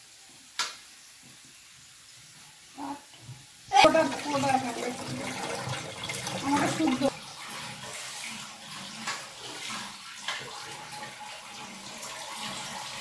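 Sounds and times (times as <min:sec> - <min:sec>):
water running from a tap: 0:01.2 - 0:13.0.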